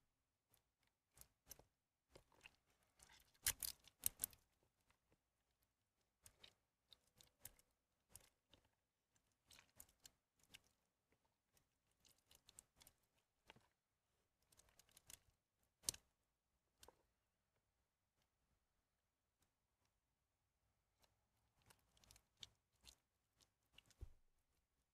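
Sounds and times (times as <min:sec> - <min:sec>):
wet soap squishing and crackling: 0:00.4 - 0:17.5, 0:20.8 - 0:24.8.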